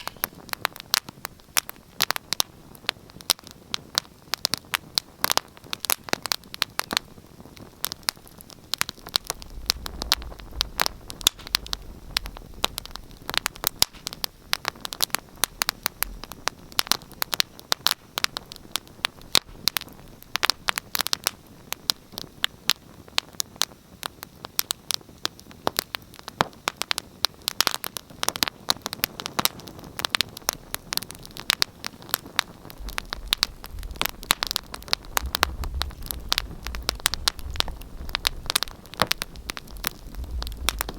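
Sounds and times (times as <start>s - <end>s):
low rumble of burning: 0.0s - 40.9s
wood fire crackling: 0.0s - 40.9s.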